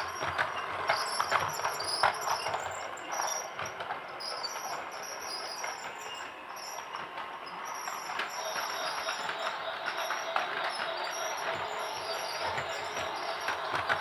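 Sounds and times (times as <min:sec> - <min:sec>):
toy train whirring and clattering: 0:00.0 - 0:14.0.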